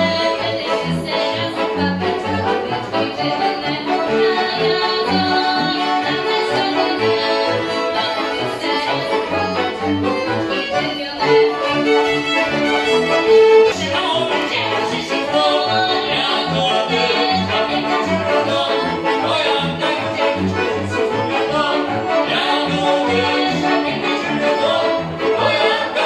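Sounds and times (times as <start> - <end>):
accordion: 0.0 - 26.0
bowed cello bass line: 0.0 - 26.0
fiddles: 0.0 - 26.0.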